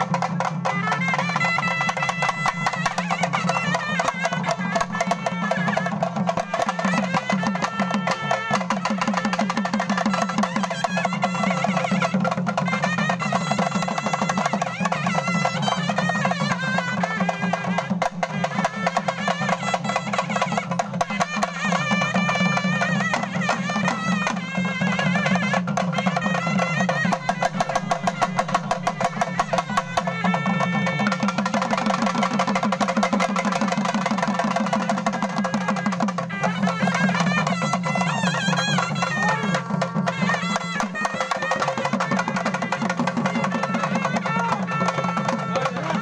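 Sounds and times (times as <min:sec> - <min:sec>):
frame drums and barrel drums: 0:00.0 - 0:46.0
reed pipe melody: 0:00.0 - 0:46.0.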